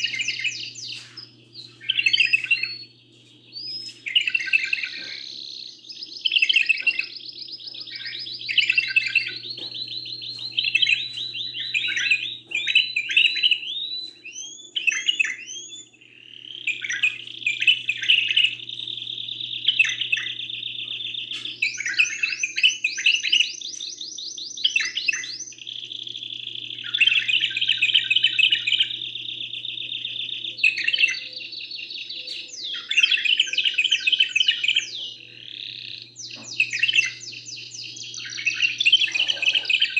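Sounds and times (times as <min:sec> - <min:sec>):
faint low hum: 0:00.0 - 0:23.1, 0:23.7 - 0:39.9
songbirds trilling: 0:00.0 - 0:39.9.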